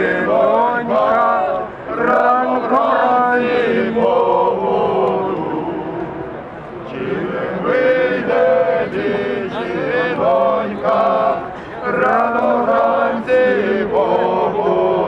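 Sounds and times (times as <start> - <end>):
men singing folk song: 0.0 - 6.3, 6.9 - 15.0.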